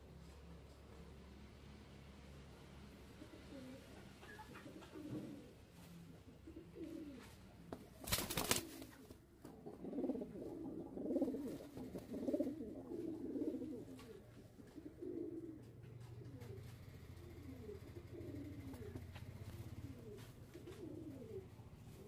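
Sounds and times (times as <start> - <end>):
pigeons cooing: 3.1 - 7.4, 8.4 - 22.0.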